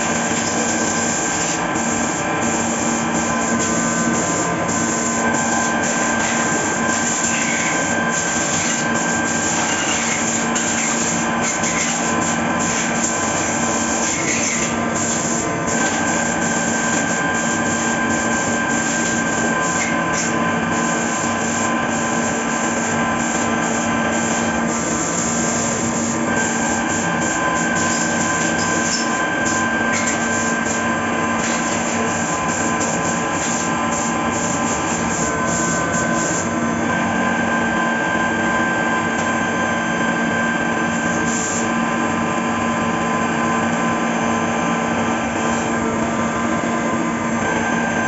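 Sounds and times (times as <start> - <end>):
milling machine spindle whine: 0.0 - 48.0.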